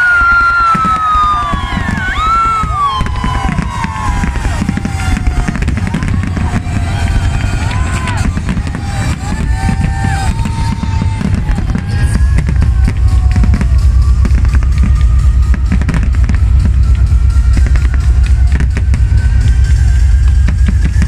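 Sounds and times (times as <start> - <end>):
fireworks bangs and crackle: 0.0 - 21.0
music playing: 0.0 - 21.0.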